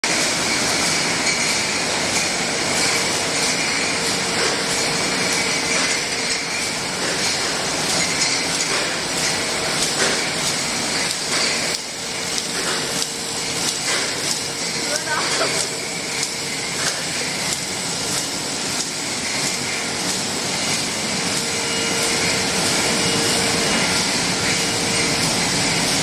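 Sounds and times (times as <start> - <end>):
conveyor machine hum: 0.0 - 26.0.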